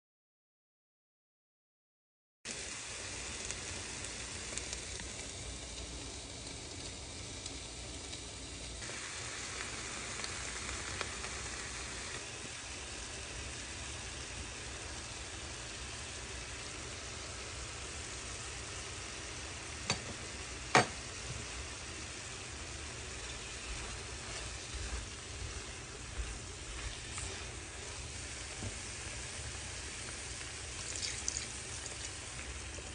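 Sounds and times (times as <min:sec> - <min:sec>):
food sizzling in a skillet: 0:02.5 - 0:32.9.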